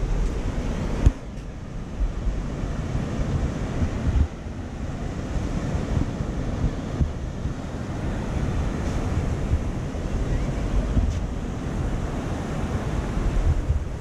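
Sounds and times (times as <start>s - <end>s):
sea waves breaking on beach: 0.0s - 14.0s
wind buffeting microphone: 0.0s - 14.0s.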